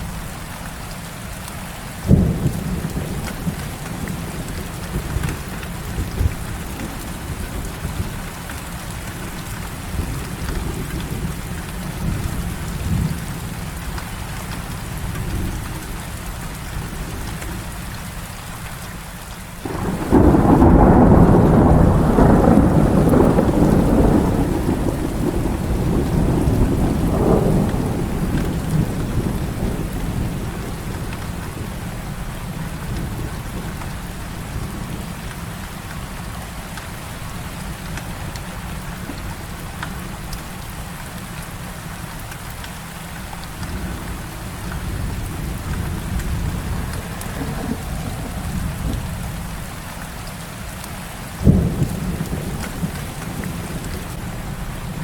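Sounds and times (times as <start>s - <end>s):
heavy rain falling: 0.0s - 55.0s
thunderclap and rumble: 2.0s - 18.0s, 19.6s - 42.5s, 43.2s - 55.0s.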